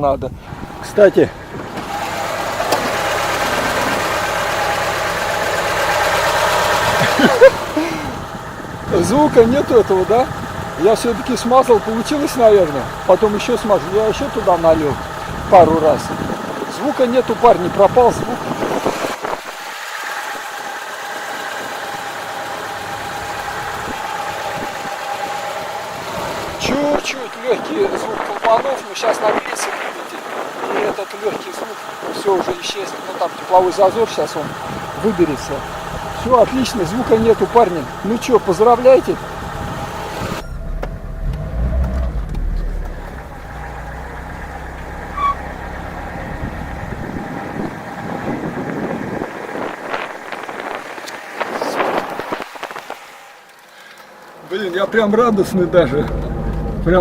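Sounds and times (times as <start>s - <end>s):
car engine idling: 0.2s - 57.0s.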